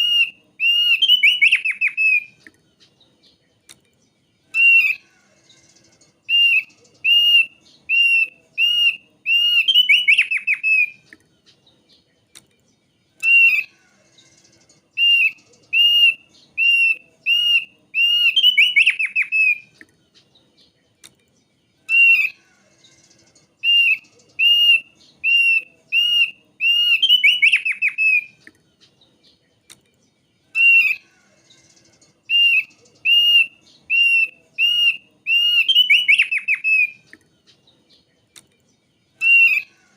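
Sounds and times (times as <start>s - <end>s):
bird whistled song with trill: 0.0s - 12.1s, 13.1s - 20.8s, 21.4s - 29.4s, 30.0s - 38.1s, 38.7s - 39.8s.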